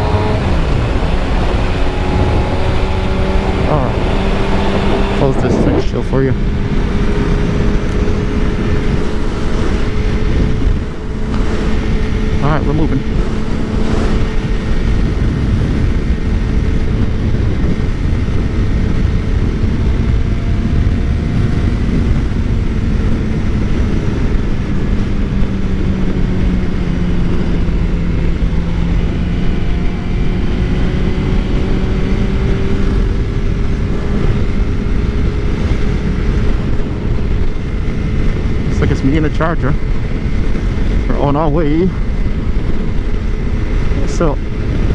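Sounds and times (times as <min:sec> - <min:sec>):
motorcycle engine cruising: 0:00.0 - 0:44.9
wind rush on microphone: 0:00.0 - 0:44.9.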